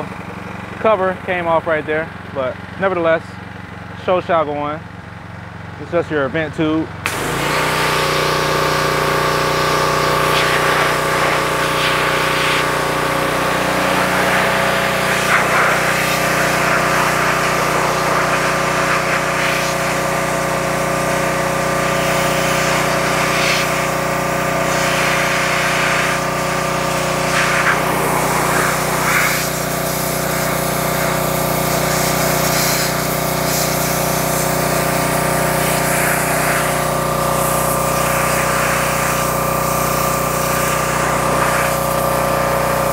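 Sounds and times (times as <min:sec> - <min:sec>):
machine hum: 0:06.9 - 0:42.9
pressure washer jet hissing: 0:07.1 - 0:42.9.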